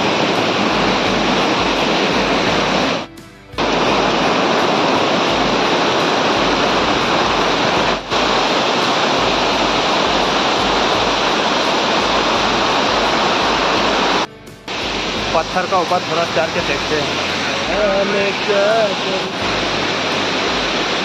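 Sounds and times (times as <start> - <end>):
waterfall rushing over rock: 0.0 - 21.0.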